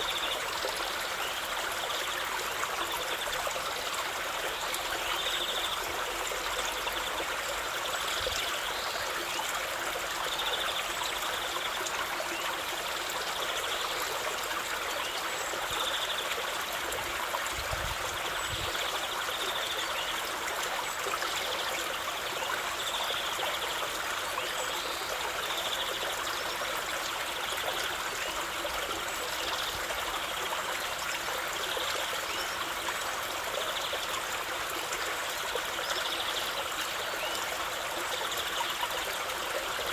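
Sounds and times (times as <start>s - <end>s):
water running and trickling: 0.0s - 39.9s.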